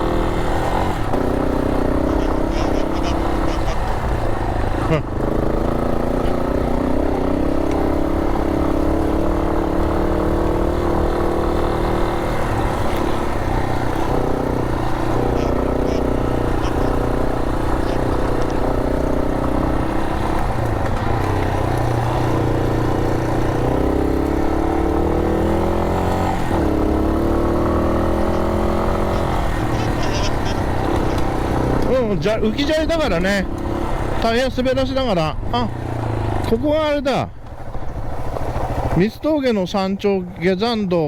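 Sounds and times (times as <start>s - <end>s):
motorcycle engine riding: 0.0s - 41.0s.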